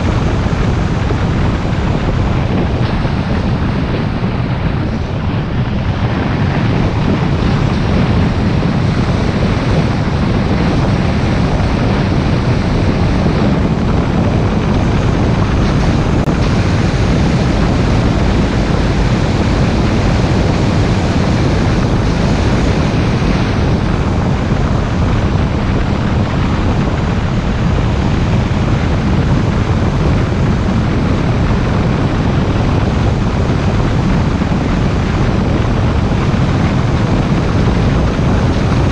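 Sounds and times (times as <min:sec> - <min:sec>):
car road noise: 0:00.0 - 0:38.9
wind noise on microphone: 0:00.0 - 0:38.9.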